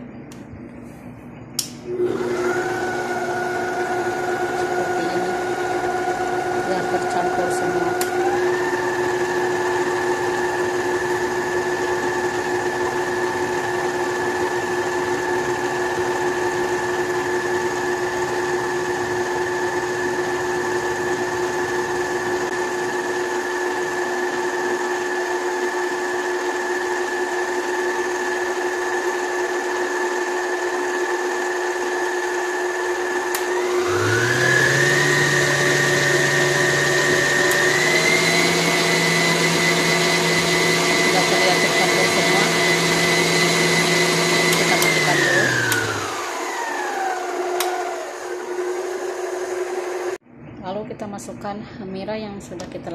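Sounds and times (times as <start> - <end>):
stand mixer motor whining: 1.9 - 50.2.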